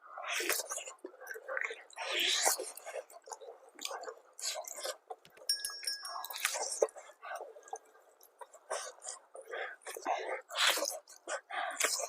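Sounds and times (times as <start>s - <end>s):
close chewing mouth sounds: 0.1s - 12.0s.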